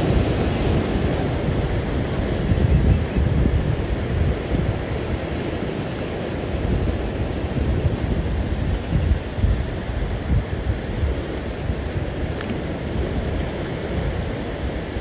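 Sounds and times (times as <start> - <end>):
surf washing over rocks: 0.0 - 15.0
wind buffeting microphone: 0.0 - 15.0.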